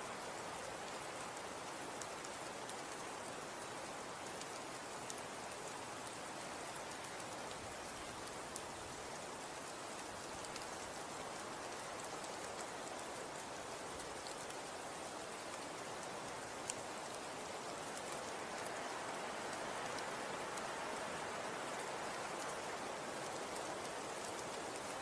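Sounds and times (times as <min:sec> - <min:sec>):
snow falling with tiny ticks: 0:00.0 - 0:25.0.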